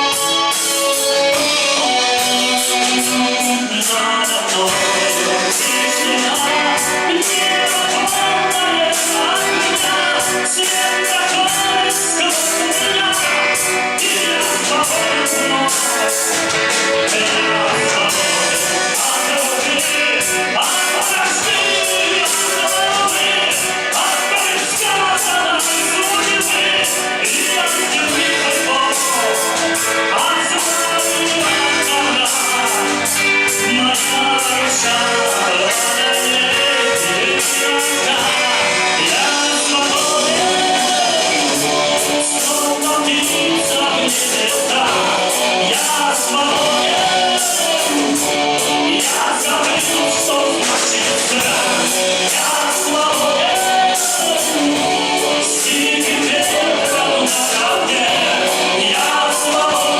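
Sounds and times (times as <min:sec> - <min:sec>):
band playing a song: 0:00.0 - 0:59.9
drum beat: 0:00.0 - 0:59.9
guitars: 0:00.0 - 0:59.9
person singing: 0:00.0 - 0:59.9
vocals: 0:00.0 - 0:59.9.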